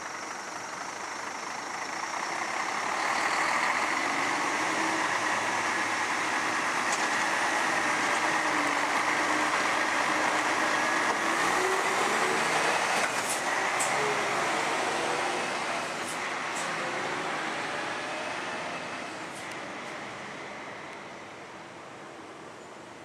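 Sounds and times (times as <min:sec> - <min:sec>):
garbage truck diesel engine: 0:00.0 - 0:22.0.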